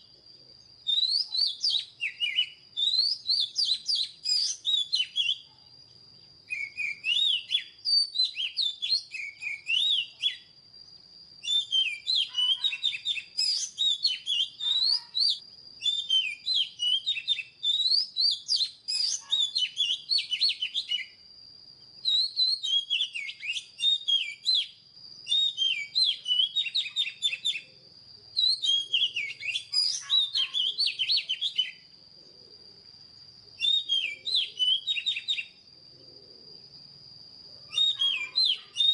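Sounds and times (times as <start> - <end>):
bird singing whistled phrases: 0.8 - 5.6, 6.4 - 10.6, 11.4 - 21.2, 22.0 - 27.8, 28.4 - 31.9, 33.6 - 35.6, 37.7 - 38.9.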